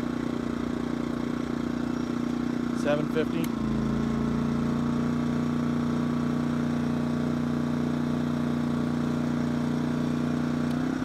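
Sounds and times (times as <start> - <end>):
generator engine running steadily: 0.0 - 11.0.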